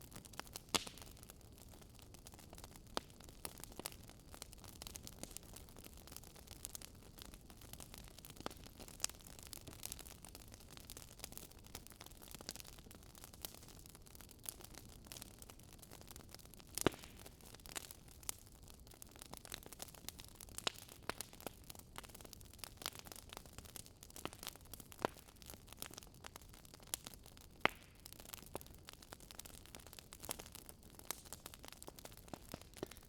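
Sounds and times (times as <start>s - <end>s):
firewood crackling: 0.0s - 33.0s.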